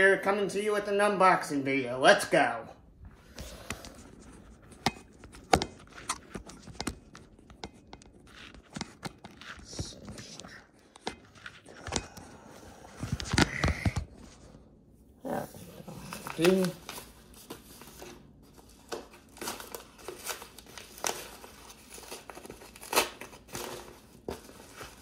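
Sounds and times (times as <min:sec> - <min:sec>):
packaging rustling and scraping: 0:03.2 - 0:14.6, 0:15.8 - 0:25.0.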